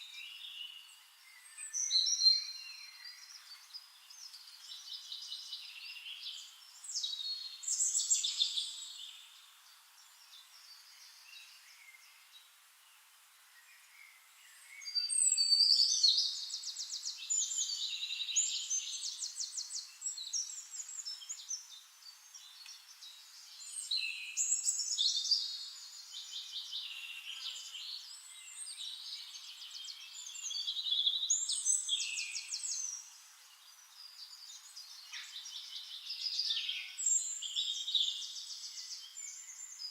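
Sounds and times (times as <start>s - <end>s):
songbirds trilling and warbling: 0.0s - 39.9s.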